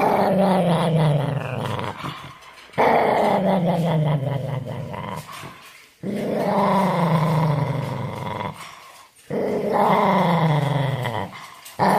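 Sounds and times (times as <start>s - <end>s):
dog growling: 0.0s - 11.9s.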